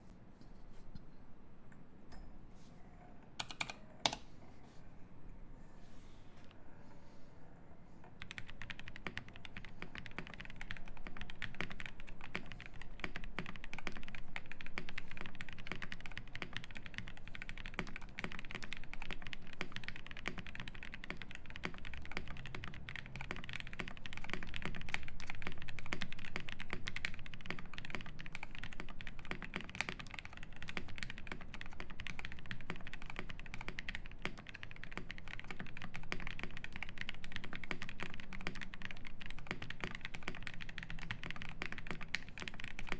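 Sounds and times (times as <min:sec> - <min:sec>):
fast mechanical keyboard typing: 0:03.4 - 0:04.2, 0:08.2 - 0:42.9.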